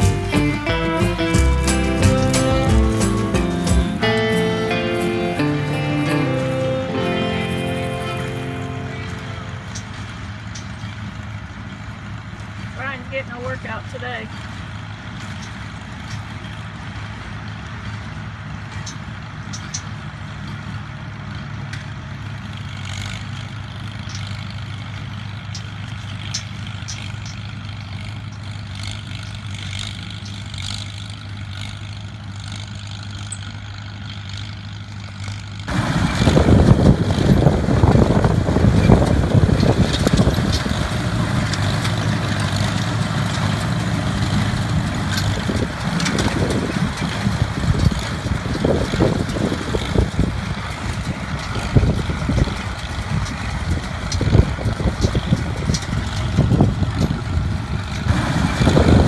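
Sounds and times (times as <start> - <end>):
loud rough noise: 0.0 - 59.0
tractor engine running: 0.0 - 59.0.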